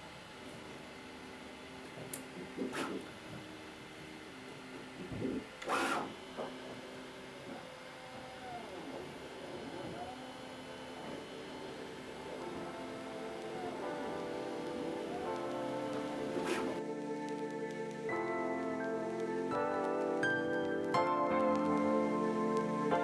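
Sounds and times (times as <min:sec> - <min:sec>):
printer stepper motors whining: 0:00.0 - 0:23.0.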